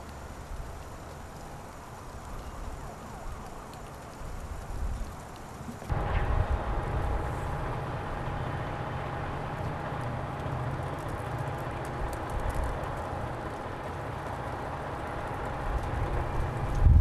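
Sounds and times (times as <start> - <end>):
low rumble of vehicle engines: 0.0 - 17.0.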